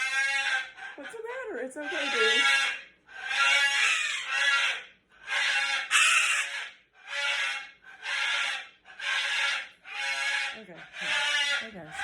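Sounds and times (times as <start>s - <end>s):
cockatoo screaming: 0.0s - 12.0s.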